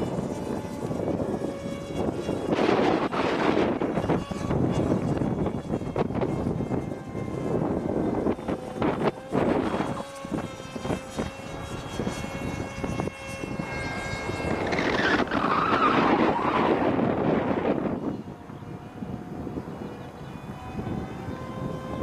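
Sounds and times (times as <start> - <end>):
model aircraft motor whining: 0.0 - 22.0.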